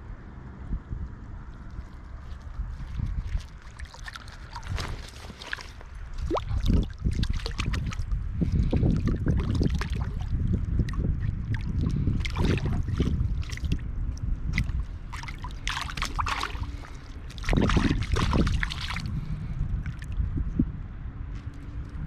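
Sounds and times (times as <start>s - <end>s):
steady low rumble: 0.0s - 22.0s
river water splashing: 1.4s - 20.2s.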